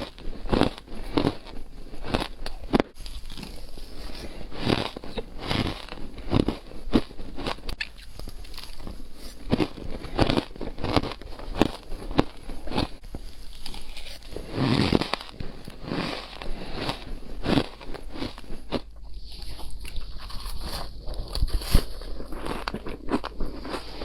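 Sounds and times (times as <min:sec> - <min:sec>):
crunching ice: 0:00.0 - 0:24.0.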